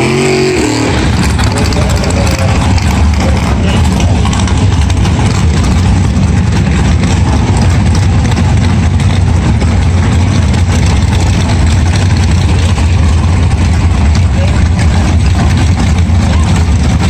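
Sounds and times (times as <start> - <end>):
racing car engines rumbling: 0.0 - 17.0.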